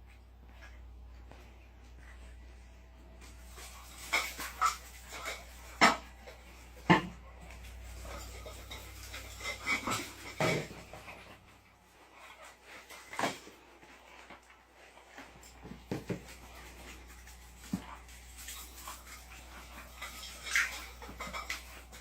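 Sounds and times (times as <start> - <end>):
dog eating from a bowl: 0.0 - 22.0.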